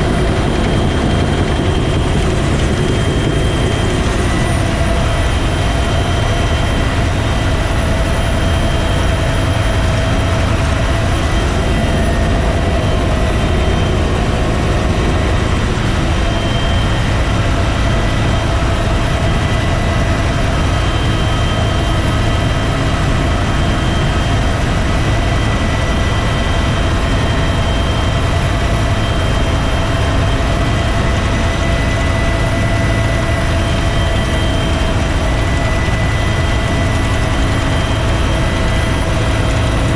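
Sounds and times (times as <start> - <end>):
helicopter turbine whine and rotor: 0.0 - 39.9.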